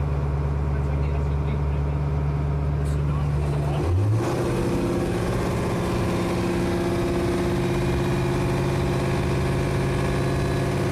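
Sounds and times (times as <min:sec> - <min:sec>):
boat engine idling: 0:00.0 - 0:10.9.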